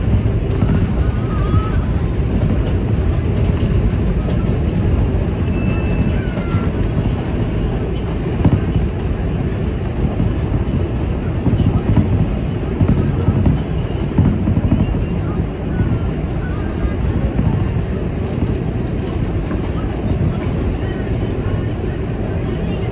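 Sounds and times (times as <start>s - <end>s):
train rumbling on rails: 0.0s - 22.9s.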